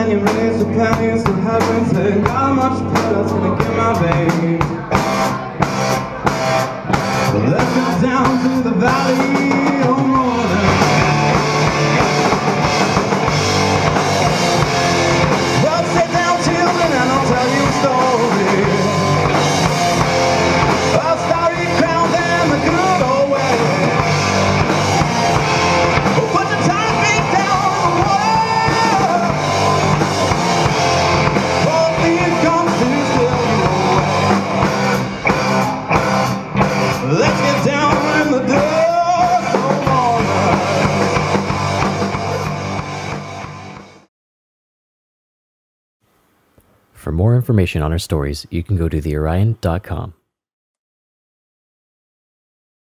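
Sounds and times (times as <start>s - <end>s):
drum kit: 0.0s - 44.0s
electric guitar: 0.0s - 44.0s
electric bass: 0.0s - 44.1s.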